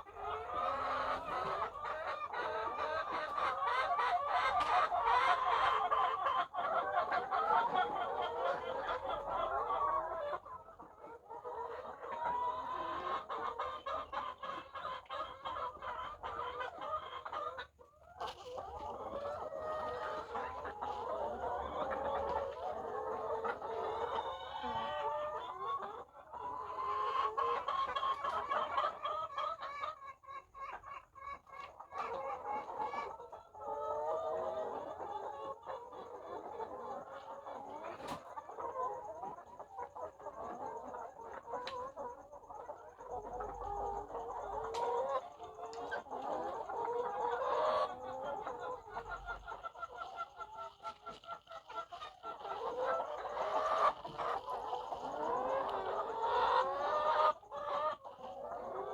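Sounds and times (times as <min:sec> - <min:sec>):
hens clucking: 0:00.0 - 0:58.9.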